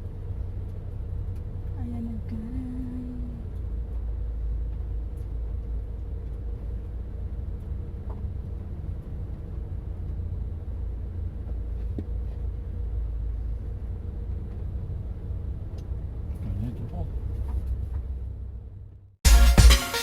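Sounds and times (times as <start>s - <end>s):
car driving slowly: 0.0s - 19.2s.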